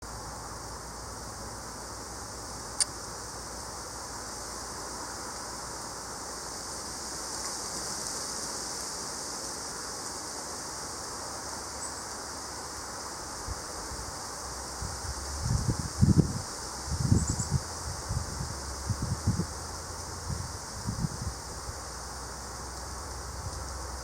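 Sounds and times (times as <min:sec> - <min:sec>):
wind rushing through trees: 0:00.0 - 0:24.0.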